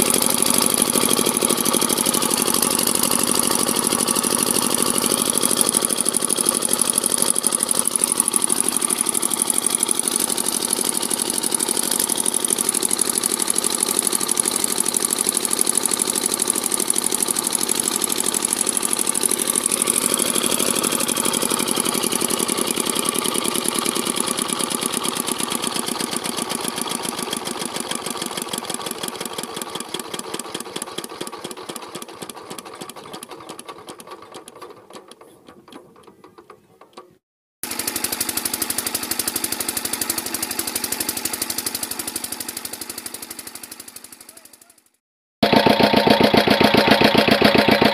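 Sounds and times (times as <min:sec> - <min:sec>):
small diesel engine running: 0:00.0 - 0:36.5, 0:37.6 - 0:47.9.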